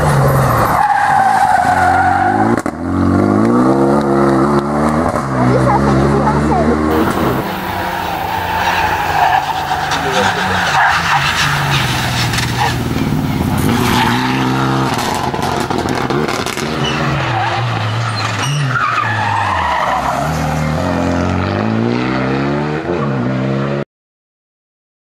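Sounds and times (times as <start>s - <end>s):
rally car engine revving: 0.0s - 23.8s.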